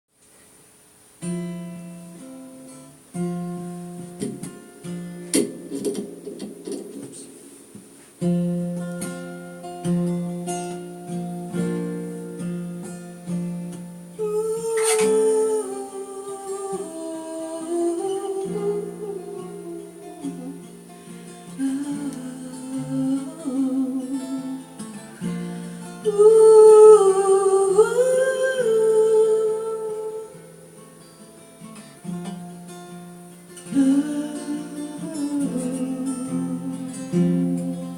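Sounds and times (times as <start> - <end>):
acoustic guitar picking: 1.1 - 37.9
wordless hummed melody: 1.9 - 37.9.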